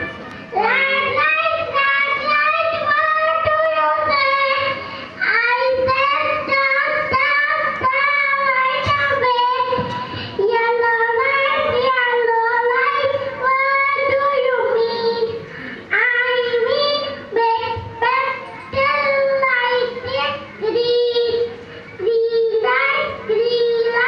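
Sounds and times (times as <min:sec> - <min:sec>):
child singing: 0:00.0 - 0:24.0.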